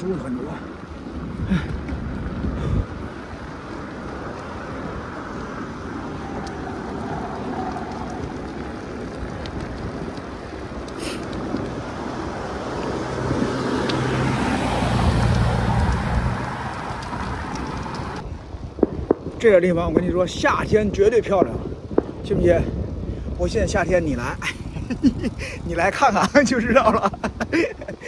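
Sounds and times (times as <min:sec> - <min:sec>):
bike tyres rolling on road: 0:00.0 - 0:28.0.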